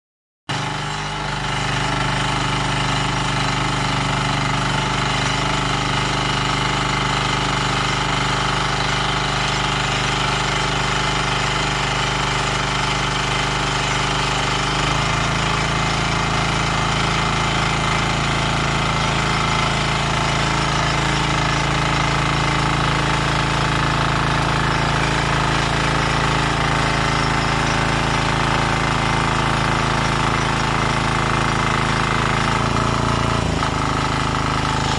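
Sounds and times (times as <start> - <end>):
diesel rotary tiller running: 0.5 - 34.9.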